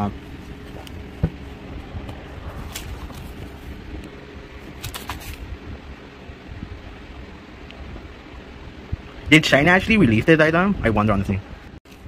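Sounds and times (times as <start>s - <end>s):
handling rumble: 0.0s - 10.9s.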